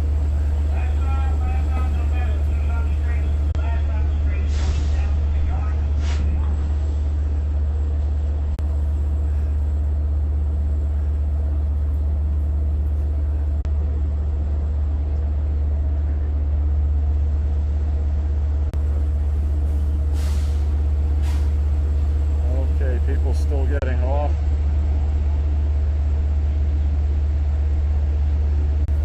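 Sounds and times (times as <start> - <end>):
diesel locomotive idling: 0.0 - 29.0.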